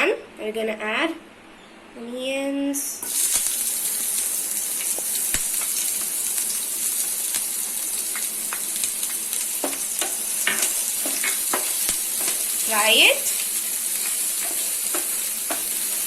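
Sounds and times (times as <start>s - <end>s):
onion sizzling in oil: 3.0s - 16.0s.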